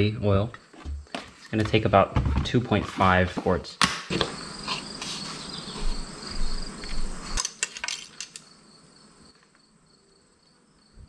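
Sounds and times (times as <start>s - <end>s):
crickets chirping: 0.0s - 2.2s, 4.1s - 11.0s.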